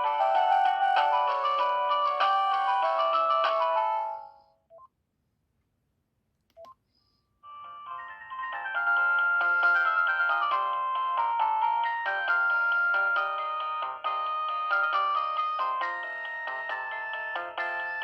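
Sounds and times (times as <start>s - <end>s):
chiming synthesized ringtone melody: 0.0s - 4.5s, 7.4s - 18.0s.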